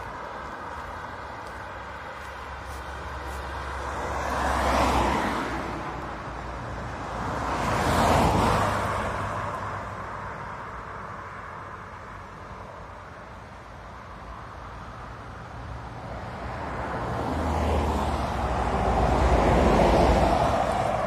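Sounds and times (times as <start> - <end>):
cars passing by: 0.0 - 21.0.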